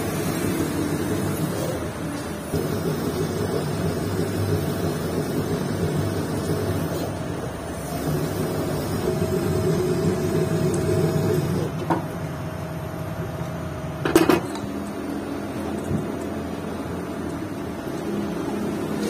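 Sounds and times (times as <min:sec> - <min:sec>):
workshop machine hum: 0:00.0 - 0:19.0.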